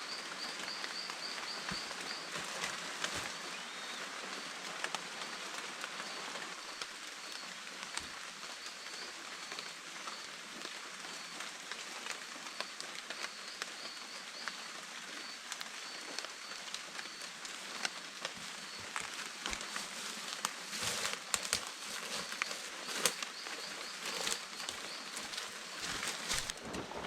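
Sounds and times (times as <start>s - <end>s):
rain on foliage: 0.0s - 27.0s.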